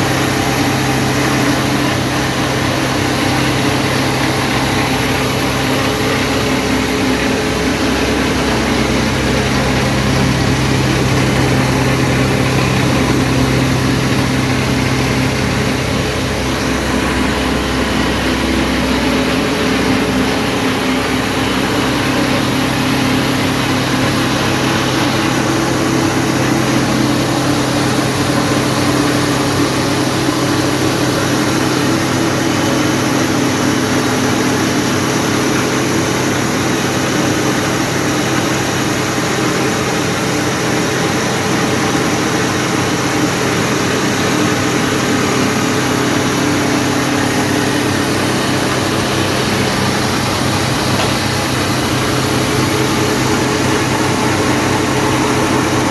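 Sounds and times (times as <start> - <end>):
grain cleaning machine running: 0.0 - 55.9.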